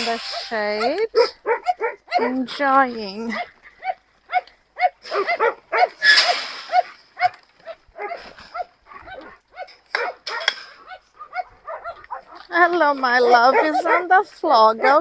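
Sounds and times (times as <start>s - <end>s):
dogs barking: 0.3s - 2.6s, 3.3s - 15.0s.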